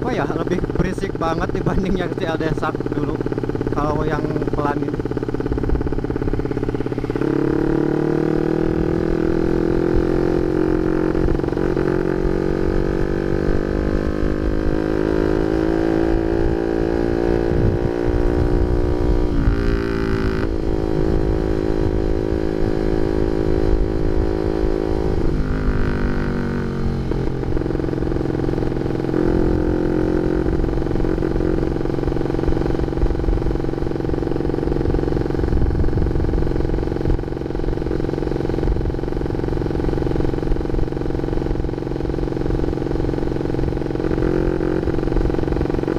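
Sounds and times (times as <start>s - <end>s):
noisy motorcycle engine revving: 0.0s - 45.9s.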